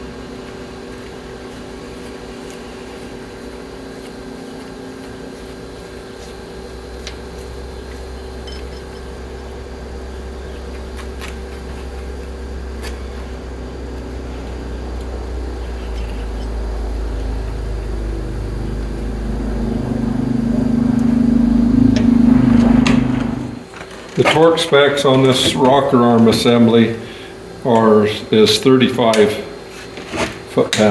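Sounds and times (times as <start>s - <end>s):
mechanical hum with low rumble: 0.0s - 30.9s.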